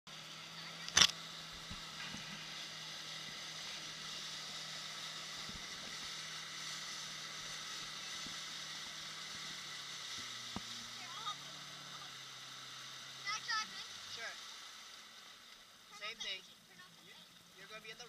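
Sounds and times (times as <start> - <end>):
jet ski engine hum: 0.1 - 18.0.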